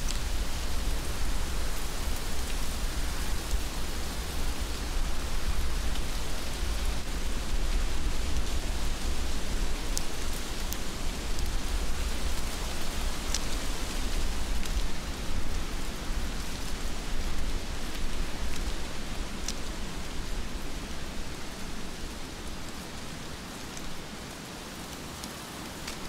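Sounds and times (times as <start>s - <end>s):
heavy rain falling: 0.0s - 26.0s
raindrops ticking close by: 0.0s - 26.0s.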